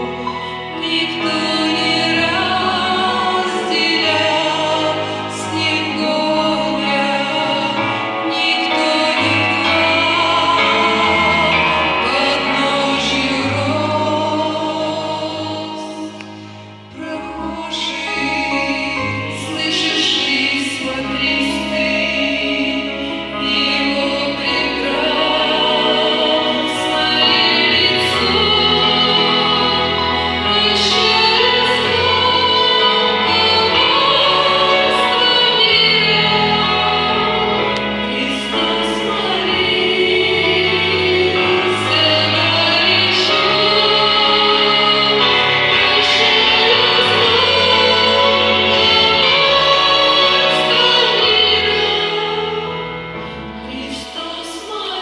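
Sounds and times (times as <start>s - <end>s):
voices singing worship song: 0.0s - 55.0s.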